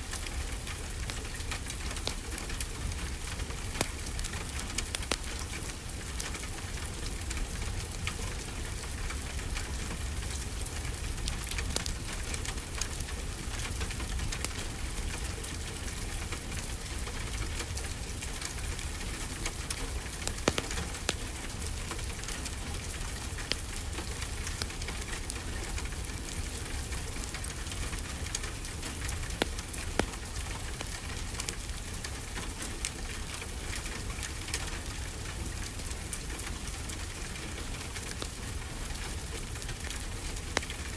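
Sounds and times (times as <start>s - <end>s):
steady rainfall: 0.0s - 40.9s
wood fire crackling and popping: 0.0s - 40.9s.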